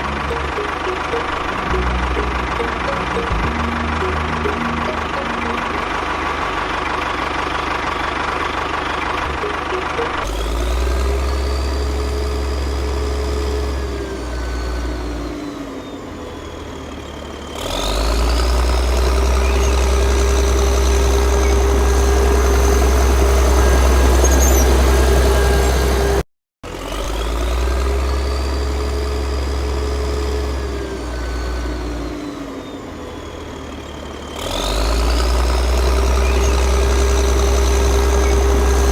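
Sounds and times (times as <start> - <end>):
motor rumbling and whining: 0.0 - 26.2, 26.8 - 38.9.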